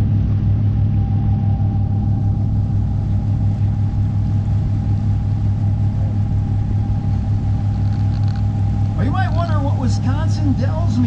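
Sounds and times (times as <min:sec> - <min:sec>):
boat engine drone: 0:00.0 - 0:11.0
high steady whine: 0:00.0 - 0:11.0.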